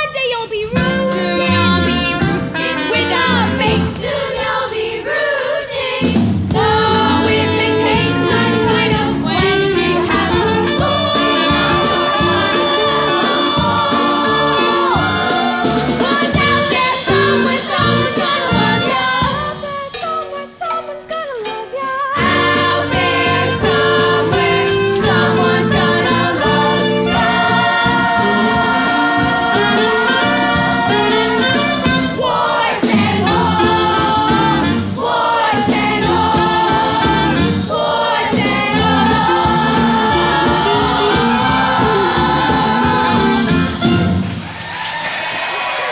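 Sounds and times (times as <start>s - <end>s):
instrumental accompaniment with percussion: 0.8s - 4.4s, 5.8s - 45.9s
children's chorus singing: 2.8s - 20.1s, 22.2s - 44.0s.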